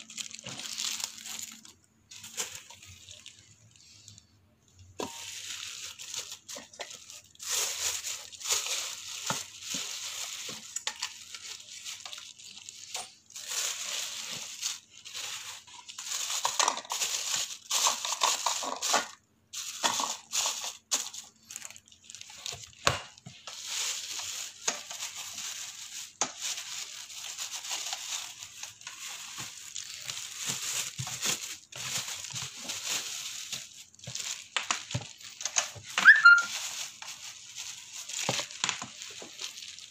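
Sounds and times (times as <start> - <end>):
plastic film crinkling: 0.0 - 39.9.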